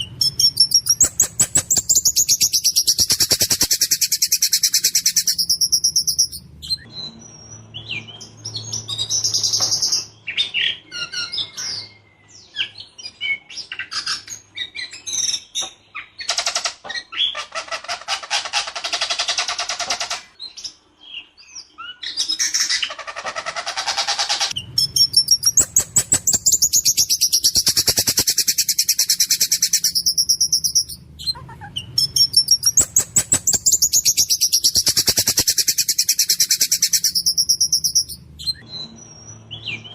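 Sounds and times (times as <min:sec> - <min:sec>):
songbird chatter and whistles: 0:00.0 - 0:17.4, 0:24.0 - 0:39.9.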